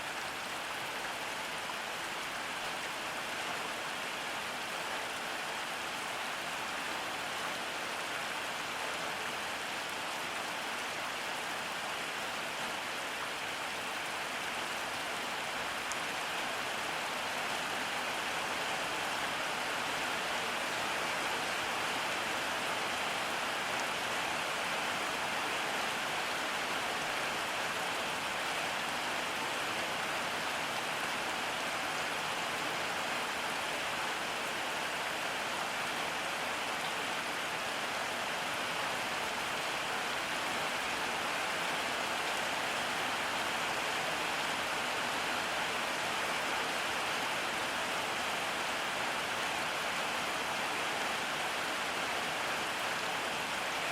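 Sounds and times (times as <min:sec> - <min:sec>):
steady rain on surfaces: 0:00.0 - 0:53.9.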